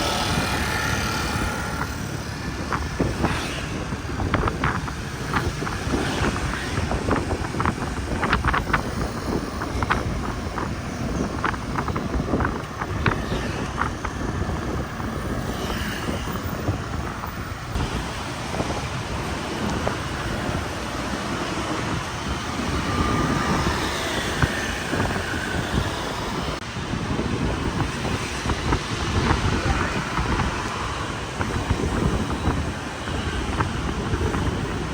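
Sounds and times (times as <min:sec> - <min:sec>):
street traffic rumble: 0:00.0 - 0:34.9
wind buffeting microphone: 0:00.0 - 0:34.9.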